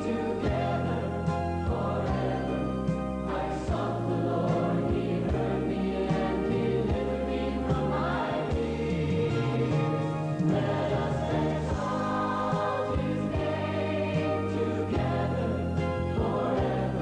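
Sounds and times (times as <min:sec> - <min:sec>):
choir singing: 0:00.0 - 0:17.0
instrumental accompaniment: 0:00.0 - 0:17.0.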